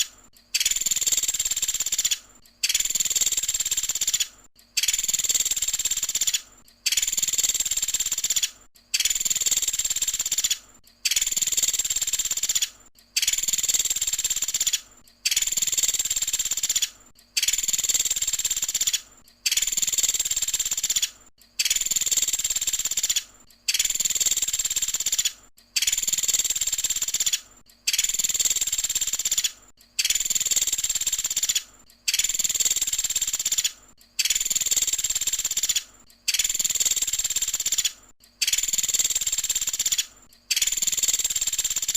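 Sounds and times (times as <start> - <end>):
woodpecker calling: 0.0 - 41.9.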